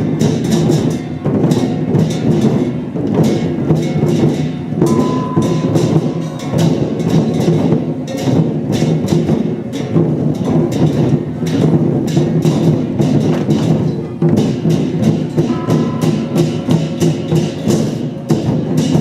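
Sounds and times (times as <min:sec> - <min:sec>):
cymbal crashes: 0:00.0 - 0:19.0
drum beating: 0:00.0 - 0:19.0.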